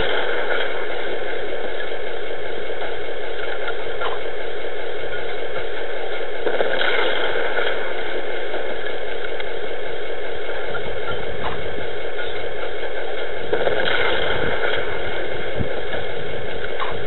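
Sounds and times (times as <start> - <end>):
simulated engine idle: 0.0 - 17.0.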